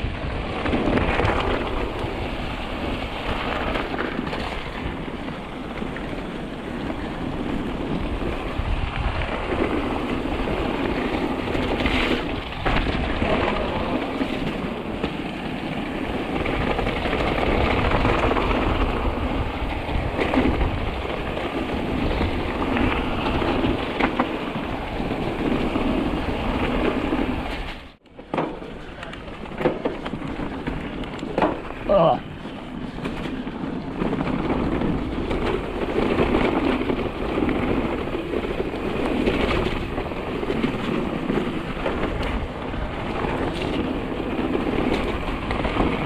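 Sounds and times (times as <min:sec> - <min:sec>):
wind and tyre noise: 0:00.0 - 0:46.0.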